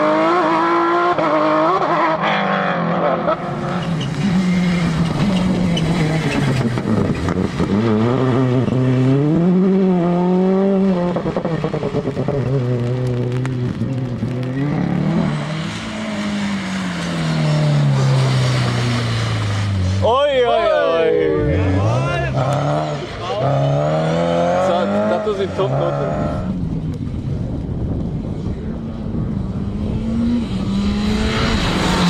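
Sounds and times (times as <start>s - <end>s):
rally car engine revving: 0.0s - 27.2s, 28.3s - 32.0s.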